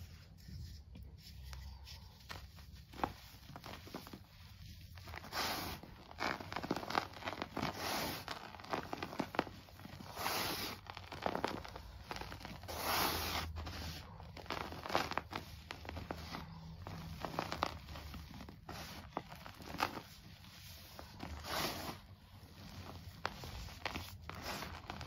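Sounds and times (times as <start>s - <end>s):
hands crushing chalk powder: 0.0s - 25.0s.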